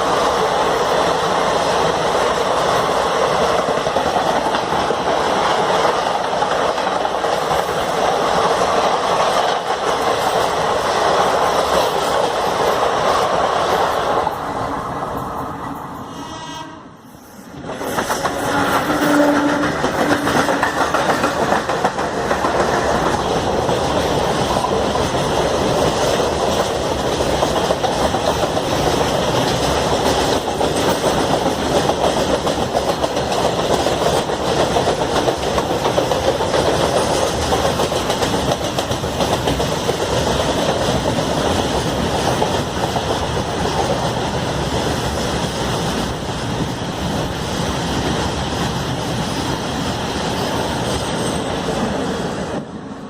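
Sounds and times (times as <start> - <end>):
train wheels clattering over rails: 0.0 - 16.0, 17.4 - 52.8.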